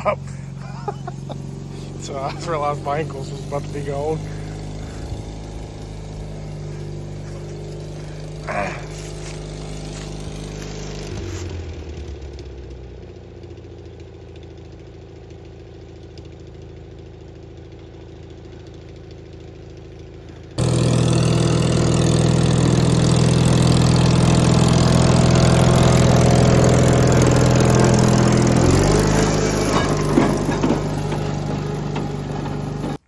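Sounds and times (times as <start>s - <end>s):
small engine idling: 0.0s - 33.0s.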